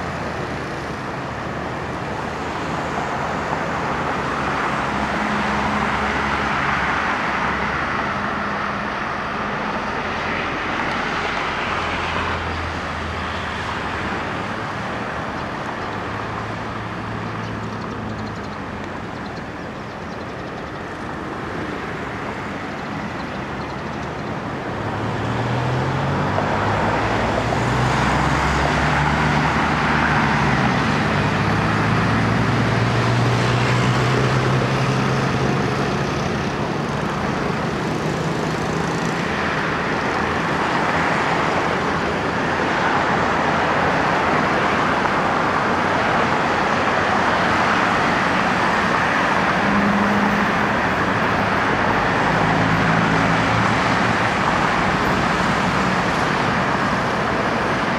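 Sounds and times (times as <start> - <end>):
aircraft engines roaring: 0.0 - 57.9.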